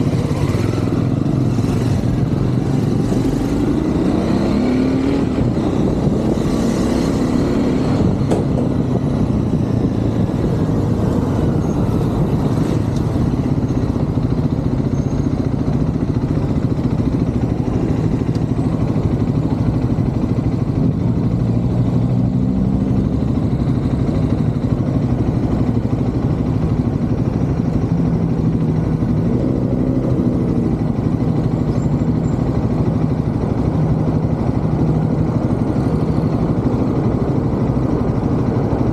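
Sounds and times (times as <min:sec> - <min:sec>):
motorcycle engine running: 0:00.0 - 0:38.9
road and traffic noise: 0:00.0 - 0:38.9.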